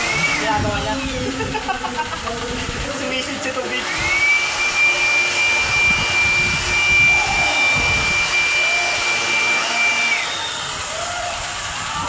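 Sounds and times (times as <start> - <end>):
electric motor whining: 0.0 - 12.0
rushing hiss: 0.0 - 12.0.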